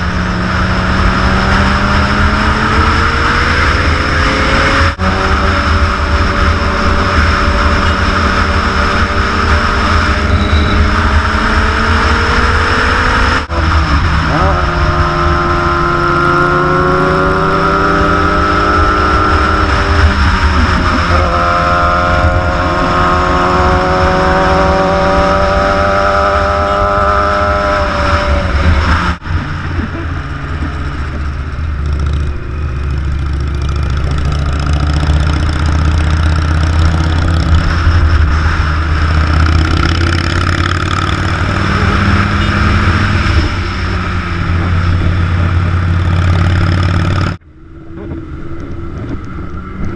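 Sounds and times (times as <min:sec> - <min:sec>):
motorcycle engine accelerating: 0:00.0 - 0:49.9
rushing noise: 0:00.0 - 0:49.9.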